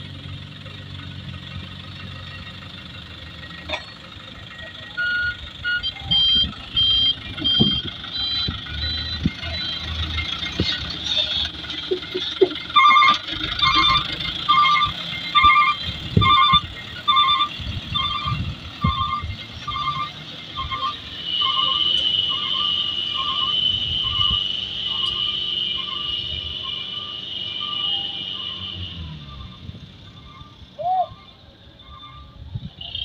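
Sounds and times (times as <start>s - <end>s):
truck engine running low: 0.0s - 33.0s
reversing alarm beeping: 4.5s - 32.5s.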